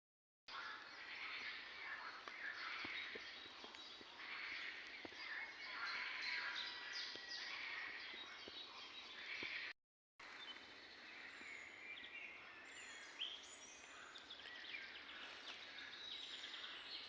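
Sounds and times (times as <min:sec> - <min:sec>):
birds singing and chirping: 0:00.5 - 0:17.0.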